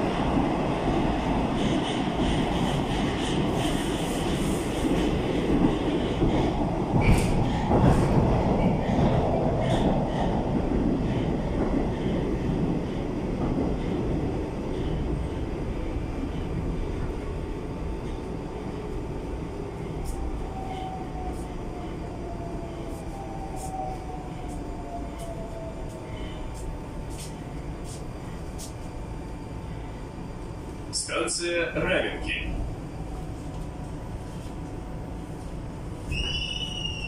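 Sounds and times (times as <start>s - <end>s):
metro train running noise: 0.0s - 37.0s.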